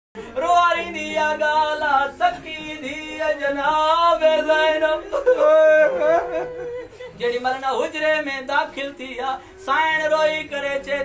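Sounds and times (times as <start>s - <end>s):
man chanting: 0.3s - 11.0s.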